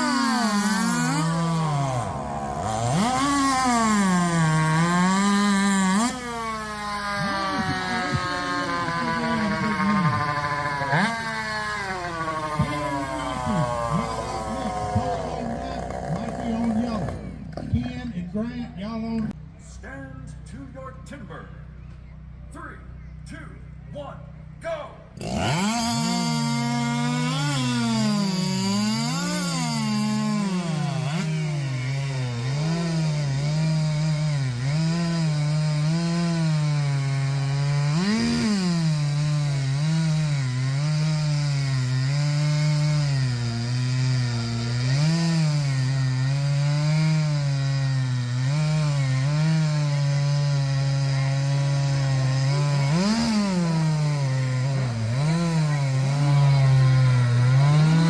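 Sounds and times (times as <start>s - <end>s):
chainsaws cutting timber: 0.0s - 19.4s, 25.2s - 58.0s.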